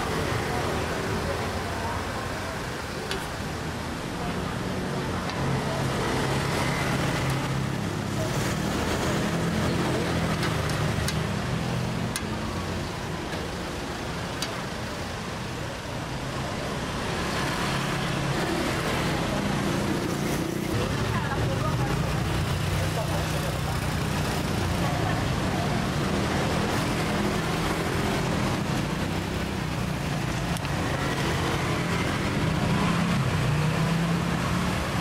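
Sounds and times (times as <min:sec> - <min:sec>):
traffic engine drone: 0:00.0 - 0:35.0.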